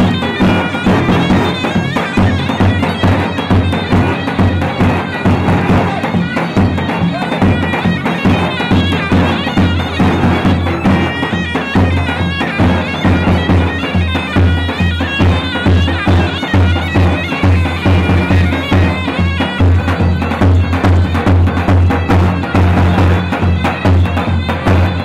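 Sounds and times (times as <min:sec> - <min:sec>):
driving drum beat: 0:00.0 - 0:25.0
shrill reedy wind melody: 0:00.0 - 0:25.0.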